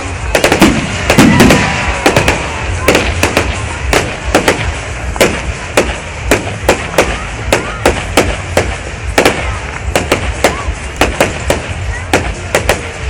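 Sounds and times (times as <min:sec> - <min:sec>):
firework whistle: 0:00.0 - 0:13.0
fireworks bangs and crackles: 0:00.0 - 0:13.0.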